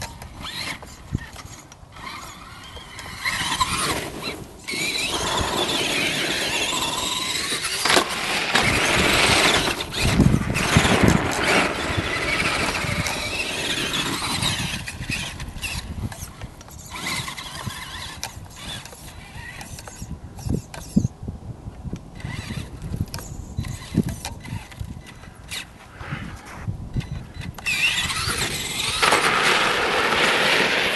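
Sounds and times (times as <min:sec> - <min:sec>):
toy truck electric motor whining: 0:00.0 - 0:21.1, 0:22.2 - 0:25.7, 0:27.0 - 0:30.9.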